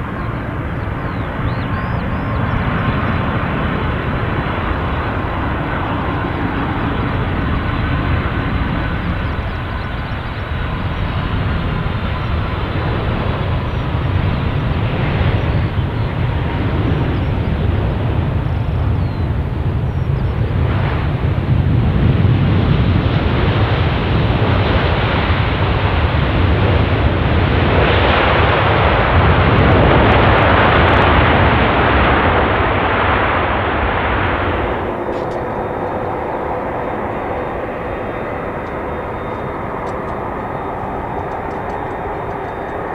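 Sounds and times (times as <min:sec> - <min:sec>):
jet engines running: 0:00.0 - 0:30.5, 0:34.0 - 0:42.9.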